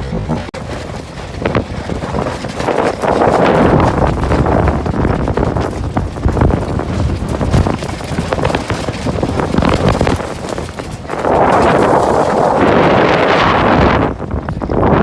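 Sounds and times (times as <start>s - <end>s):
rapid irregular knocks and clatter: 0.0s - 13.3s
low wind rumble: 0.0s - 15.0s.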